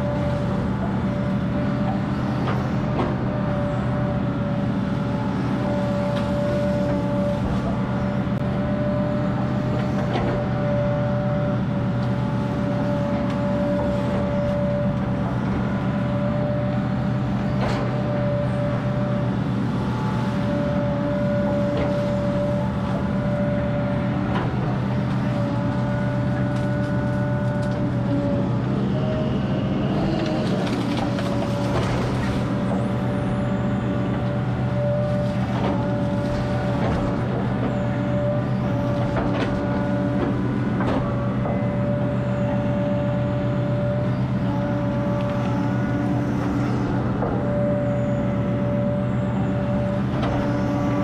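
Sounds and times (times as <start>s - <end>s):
constant whine: 0.0s - 51.0s
excavator diesel engine running: 0.0s - 51.0s.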